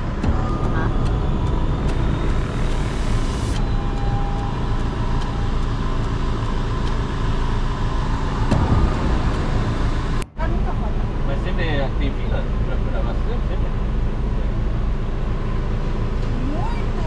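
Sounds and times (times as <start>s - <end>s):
road noise: 0.0s - 17.0s
vehicle engine drone: 0.0s - 17.0s.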